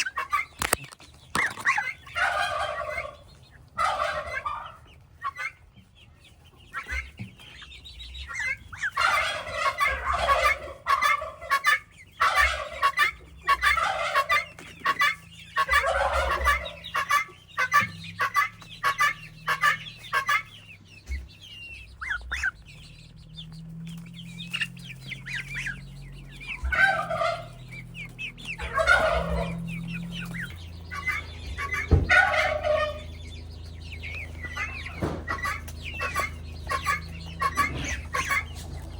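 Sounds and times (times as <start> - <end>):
poultry clucking: 0.0 - 38.9.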